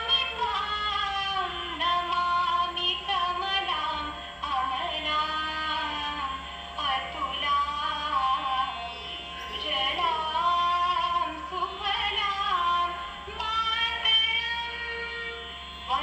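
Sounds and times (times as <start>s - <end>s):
woman singing with music: 0.0s - 16.0s.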